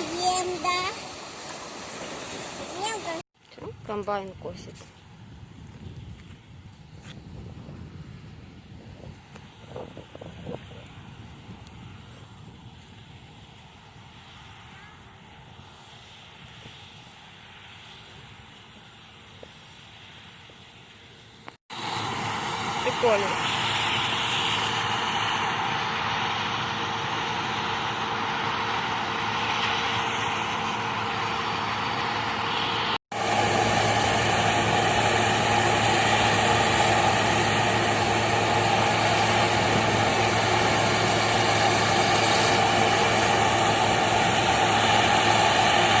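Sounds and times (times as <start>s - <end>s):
combine harvester engine drone: 0.0s - 46.0s.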